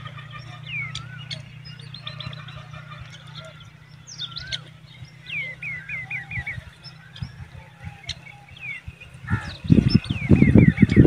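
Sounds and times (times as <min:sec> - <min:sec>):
loud low rumbling: 0:00.0 - 0:11.0
small bird chirping: 0:00.5 - 0:11.0.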